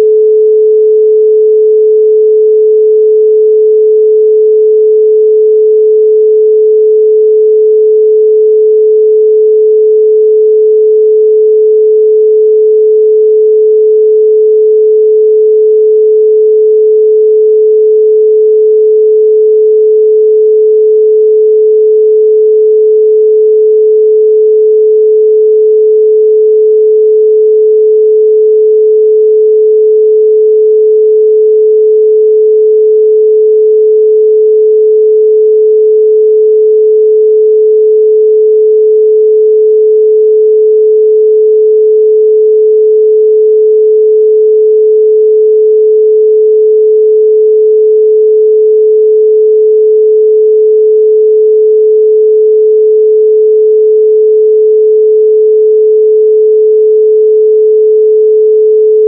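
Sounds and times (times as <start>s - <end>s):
pure sine tone: 0.0s - 59.0s.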